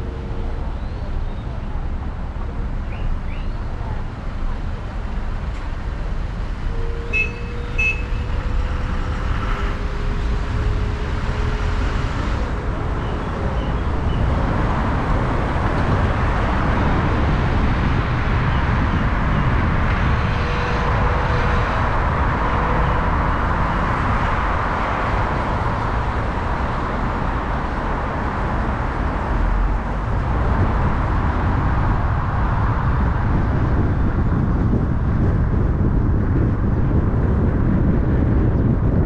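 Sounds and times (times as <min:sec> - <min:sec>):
car driving in traffic: 0:00.0 - 0:39.0.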